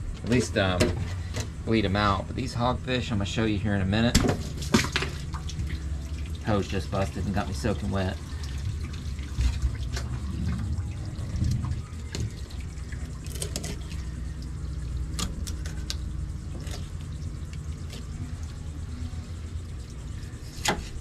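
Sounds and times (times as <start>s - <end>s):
water rushing from hose: 2.0s - 21.0s.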